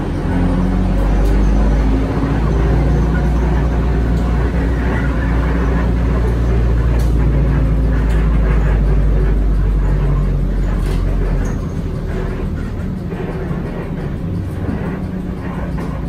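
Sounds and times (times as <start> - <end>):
bus engine rumble: 0.0 - 16.0
road noise: 0.0 - 16.0.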